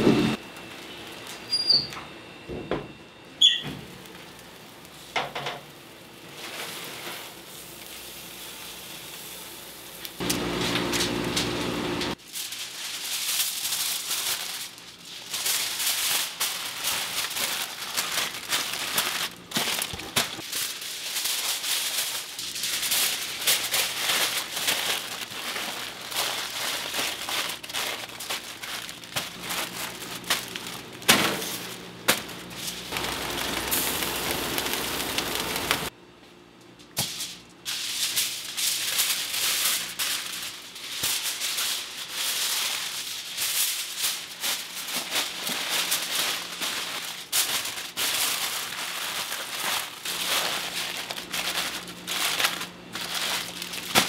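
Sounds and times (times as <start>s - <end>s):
barbecue crackling and sizzling: 3.3s - 36.0s, 36.7s - 54.0s.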